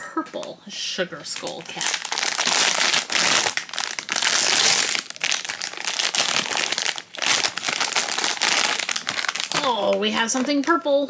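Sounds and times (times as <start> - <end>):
foil packaging crinkling: 1.2 - 10.8.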